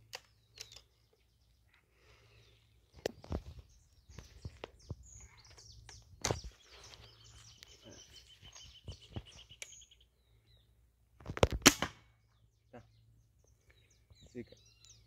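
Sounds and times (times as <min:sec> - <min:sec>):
bird trill: 0:00.0 - 0:10.7, 0:12.2 - 0:15.0
small birds chirping: 0:00.0 - 0:11.4, 0:12.1 - 0:15.0.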